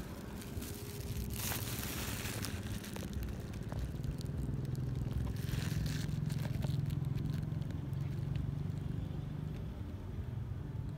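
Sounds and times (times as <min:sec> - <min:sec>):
crackles and rustles on microphone: 0:00.0 - 0:09.7
low engine hum: 0:00.0 - 0:10.9.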